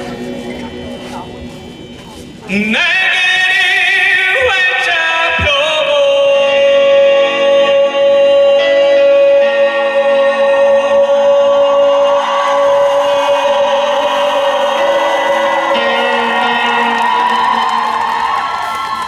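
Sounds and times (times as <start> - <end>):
loud music over stage speakers: 0.0 - 19.0.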